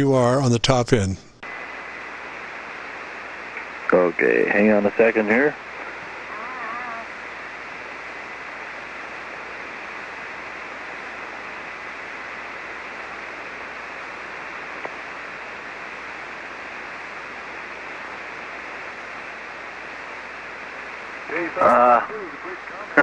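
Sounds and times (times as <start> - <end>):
radio band noise hiss: 0.0 - 23.0.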